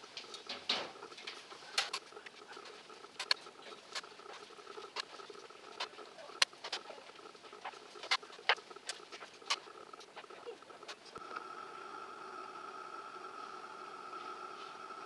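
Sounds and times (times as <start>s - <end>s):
faint hum with high tone: 0.0s - 15.0s.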